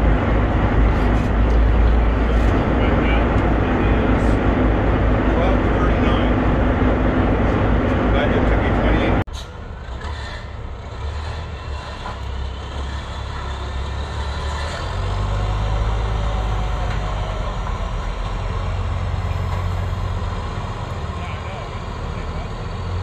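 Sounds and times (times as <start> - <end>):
boat engines rumbling: 0.0 - 23.0.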